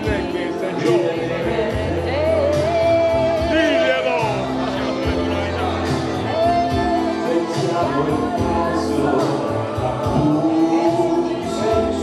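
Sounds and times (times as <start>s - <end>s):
live band music: 0.0s - 12.0s
man singing into a microphone: 0.0s - 12.0s.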